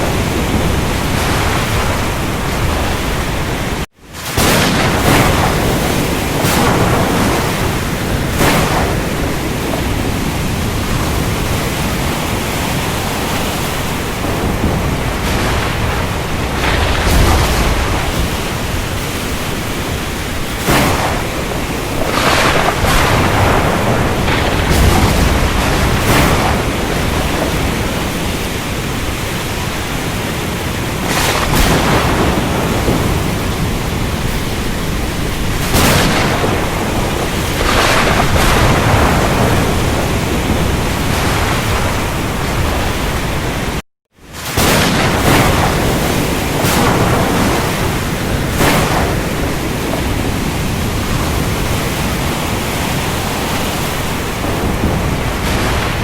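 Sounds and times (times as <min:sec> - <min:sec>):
surf and rain rushing: 0:00.0 - 0:56.0
waves crashing: 0:00.0 - 0:56.0.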